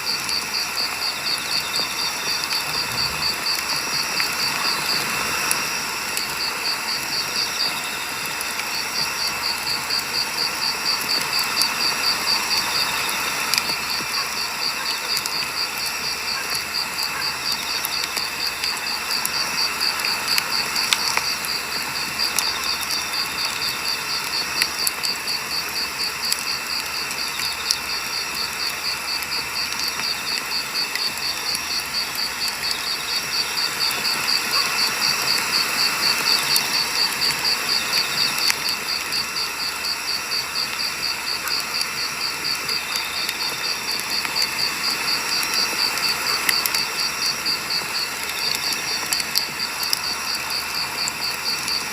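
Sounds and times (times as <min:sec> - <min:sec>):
campfire hissing and crackling: 0:00.0 - 0:51.9.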